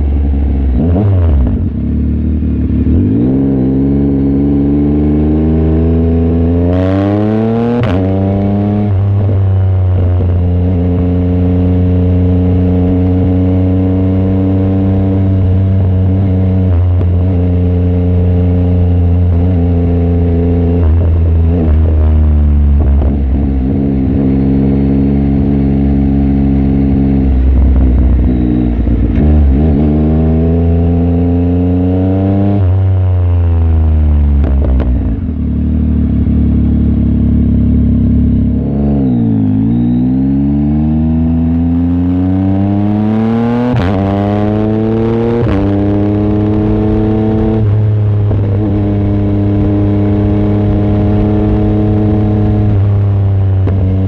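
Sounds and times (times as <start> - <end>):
motorcycle engine under way: 0.0 - 54.0.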